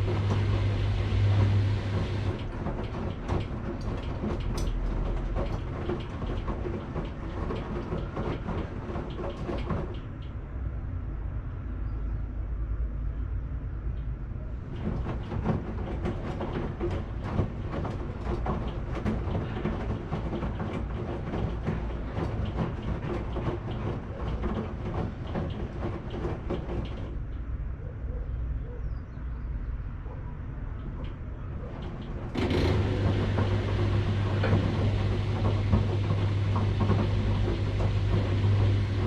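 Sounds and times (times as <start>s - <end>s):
washing machine knocking and rattling: 0.0s - 10.4s, 14.5s - 27.8s, 30.7s - 39.0s
washing machine hum: 0.0s - 11.4s, 13.9s - 28.2s, 30.0s - 39.0s.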